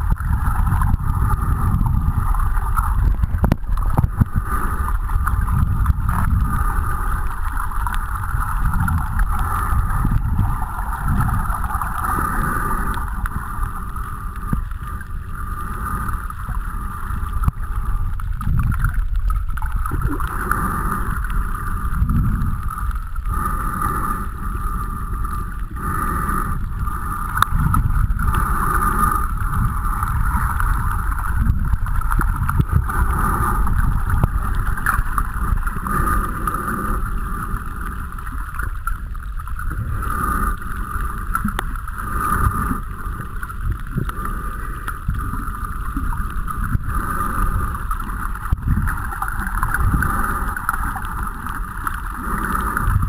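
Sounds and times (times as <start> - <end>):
underwater rumble of moving water: 0.0 - 53.0
faint clicks: 0.1 - 23.3, 26.6 - 28.5, 29.2 - 53.0.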